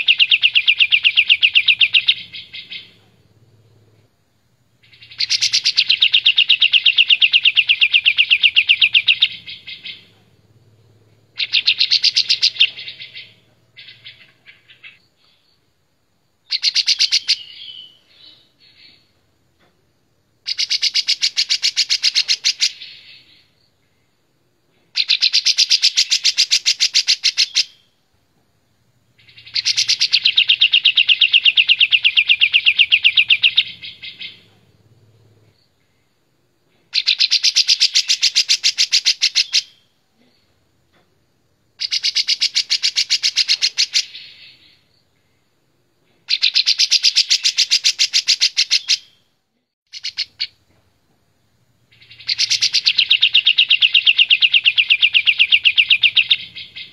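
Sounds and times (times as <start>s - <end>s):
bulbul singing trilling phrases: 0.0s - 4.0s, 4.8s - 15.0s, 16.5s - 19.1s, 20.4s - 23.6s, 24.9s - 28.0s, 29.1s - 36.0s, 36.8s - 40.5s, 41.8s - 45.0s, 46.2s - 49.3s, 49.9s - 50.6s, 51.4s - 56.9s.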